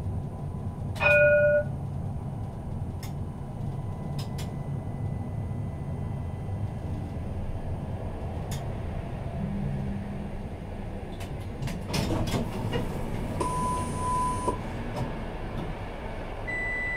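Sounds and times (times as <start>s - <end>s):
tram running rumble: 0.0s - 16.9s.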